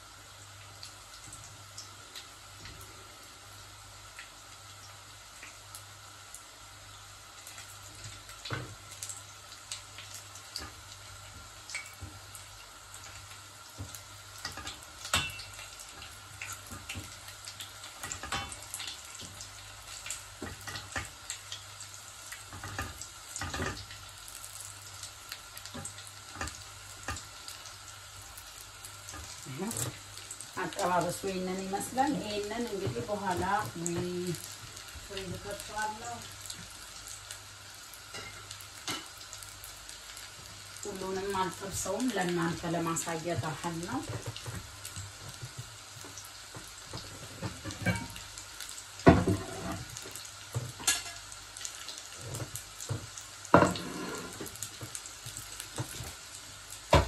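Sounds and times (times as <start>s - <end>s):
food deep-frying in oil: 0.0s - 57.0s.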